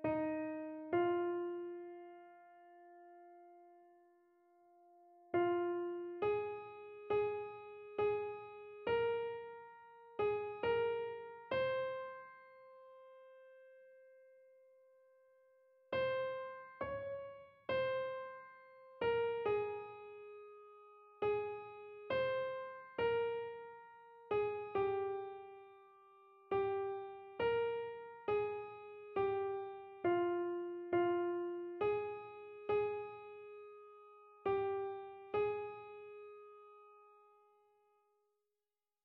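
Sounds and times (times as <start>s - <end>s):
slow piano melody: 0.0s - 37.8s.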